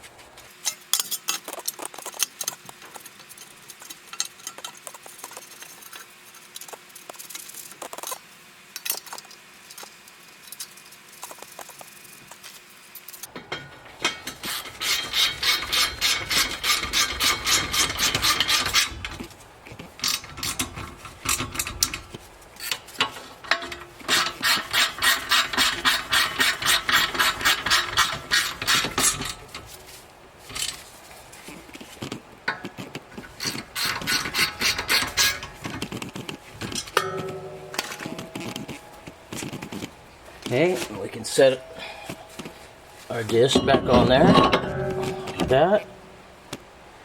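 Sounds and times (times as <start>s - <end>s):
metal handling: 0.5s - 46.6s.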